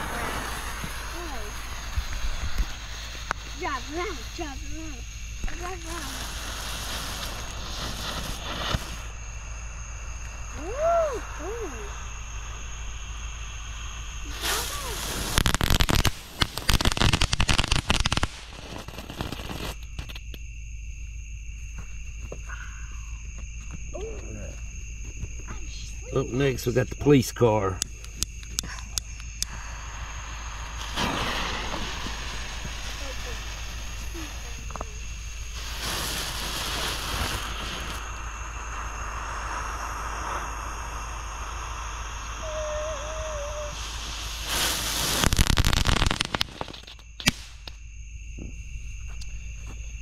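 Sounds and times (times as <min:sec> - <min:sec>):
firework fountain crackling: 0:00.0 - 0:20.2, 0:25.7 - 0:47.8
firework hiss: 0:00.0 - 0:20.4, 0:25.6 - 0:47.8.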